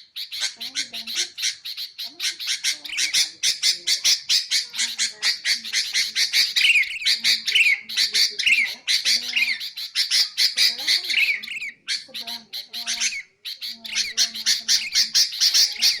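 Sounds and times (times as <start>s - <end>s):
birds chattering harsh notes: 0.0s - 16.0s.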